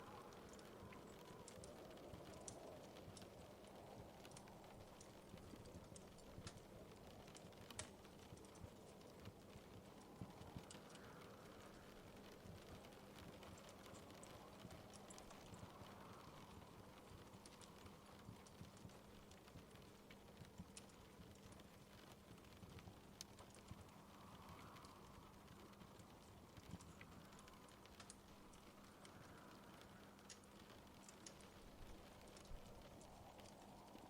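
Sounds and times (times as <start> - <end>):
faint wood fire crackling: 0.0 - 34.0
low hiss: 0.0 - 34.0.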